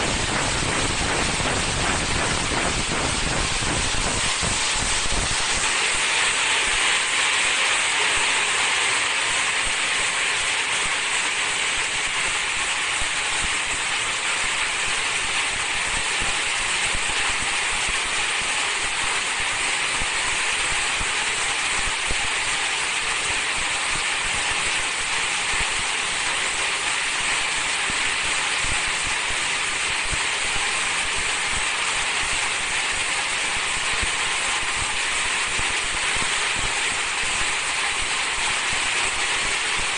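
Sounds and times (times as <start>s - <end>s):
film rewinder machine hissing: 0.0s - 39.9s.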